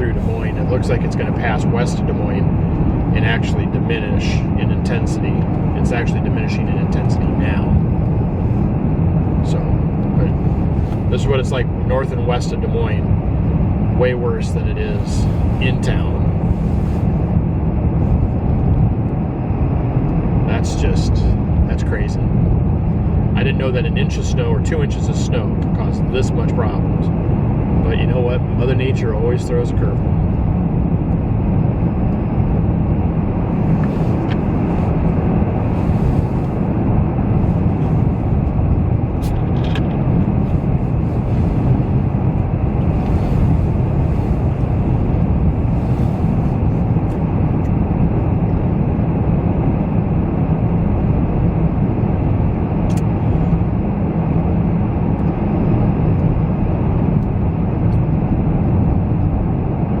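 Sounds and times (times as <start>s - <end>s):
engine and tyre rumble in car: 0.0s - 60.0s.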